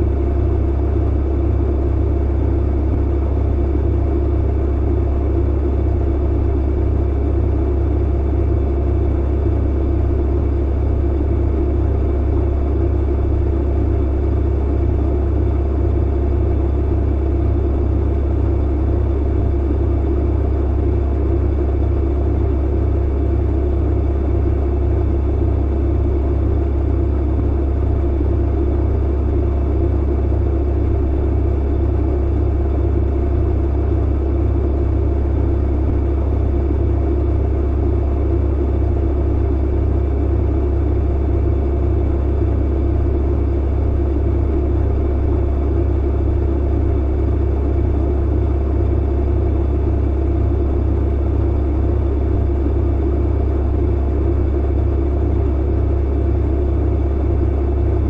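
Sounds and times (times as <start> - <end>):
clothes dryer rumbling: 9.0 - 58.0.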